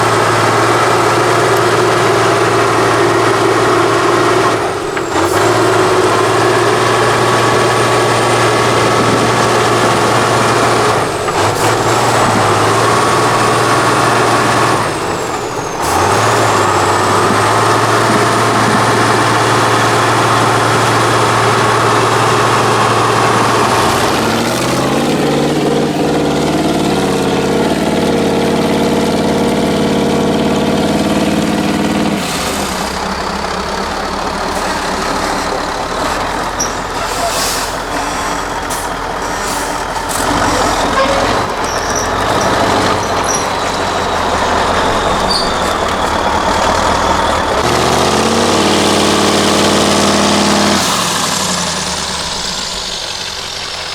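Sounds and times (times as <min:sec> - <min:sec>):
diesel truck engine under load: 0:00.0 - 0:53.9.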